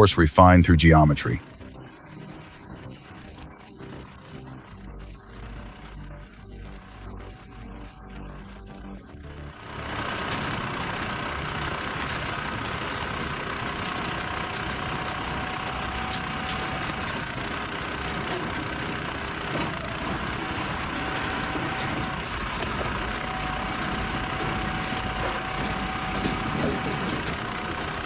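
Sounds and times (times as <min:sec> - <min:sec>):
log splitter engine running: 0:00.0 - 0:28.0
steady whine: 0:00.0 - 0:28.0.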